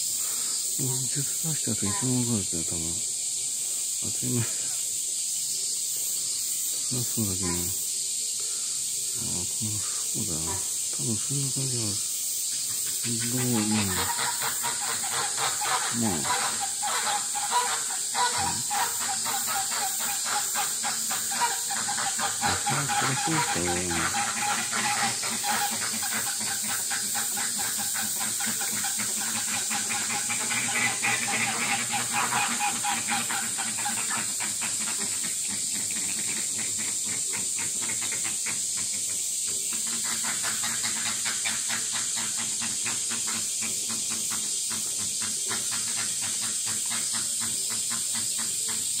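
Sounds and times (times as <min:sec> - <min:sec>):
cicadas pulsing hiss: 0:00.0 - 0:49.0.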